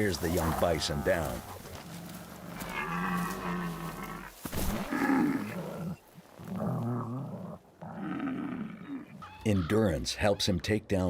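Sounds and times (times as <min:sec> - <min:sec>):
young bison bawling: 0:00.5 - 0:09.5.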